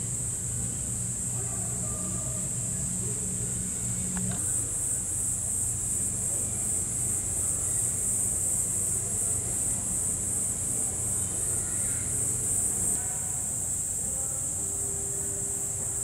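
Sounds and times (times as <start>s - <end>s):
insects shrilling: 0.0s - 16.0s.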